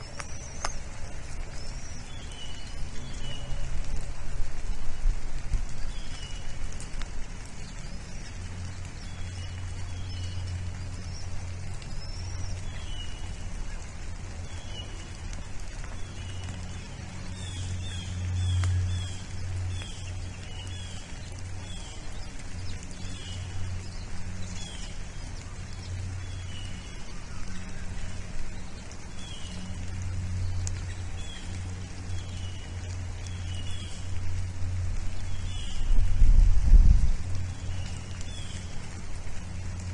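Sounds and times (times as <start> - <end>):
birds chirping: 0.0 - 4.8, 5.7 - 36.7, 37.3 - 39.9
low hum: 0.0 - 39.9.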